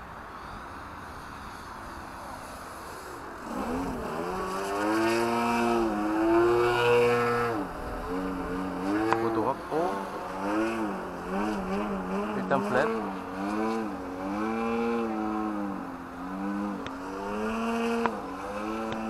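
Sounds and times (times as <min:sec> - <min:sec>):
car engine revving: 0:03.4 - 0:19.0.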